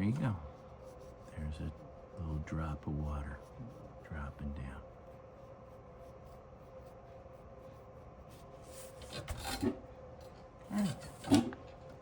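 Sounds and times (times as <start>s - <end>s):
rubbing and scraping on paper: 0.0s - 9.8s.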